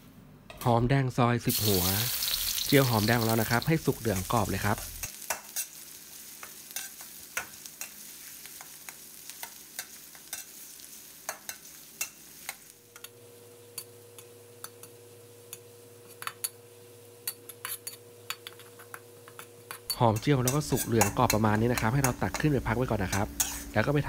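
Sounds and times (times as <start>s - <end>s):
shallots sizzling in hot oil: 1.5s - 24.0s.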